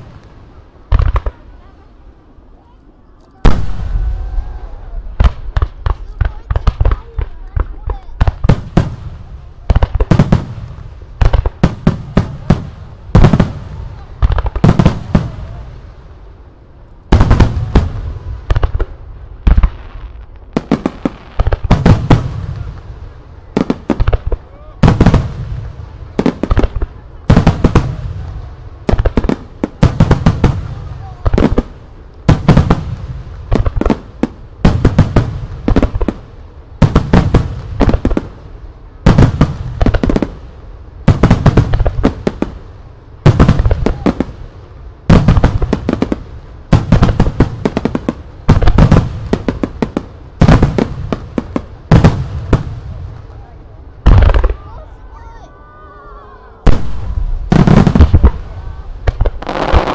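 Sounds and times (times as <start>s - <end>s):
fireworks bursting with sharp bangs: 0.0s - 55.6s, 56.2s - 59.9s
low rumble of fireworks: 0.0s - 59.9s.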